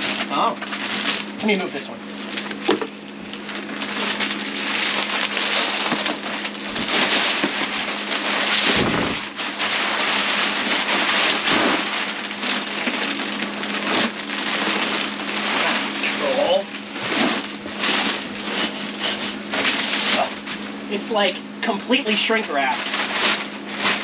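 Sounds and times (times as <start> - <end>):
plastic wrap crinkling: 0.0 - 24.0.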